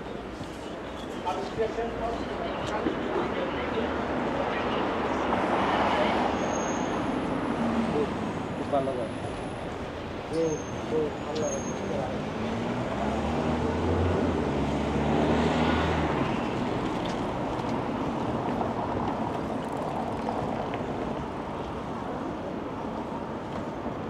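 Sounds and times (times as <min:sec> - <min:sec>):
passing cars: 0:00.0 - 0:24.0.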